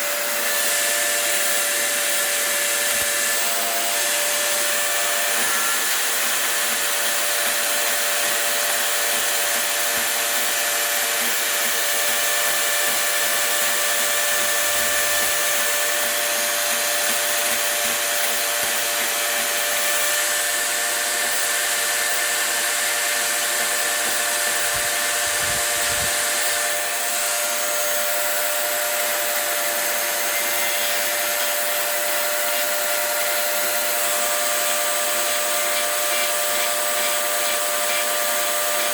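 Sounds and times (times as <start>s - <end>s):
rotary tool grinding wood: 0.0s - 38.9s.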